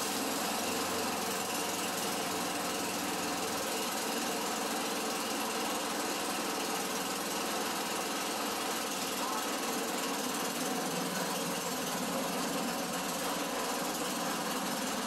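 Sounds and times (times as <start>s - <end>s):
small gasoline engine idling: 0.0s - 15.0s.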